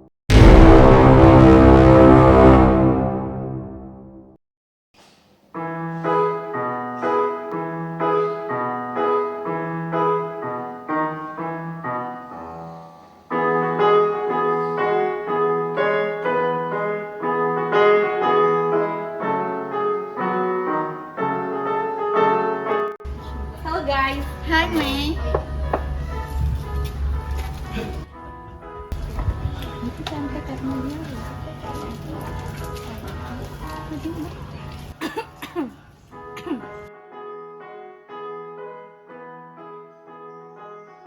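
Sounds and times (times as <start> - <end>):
slow piano melody: 5.6 - 33.8, 36.1 - 41.0.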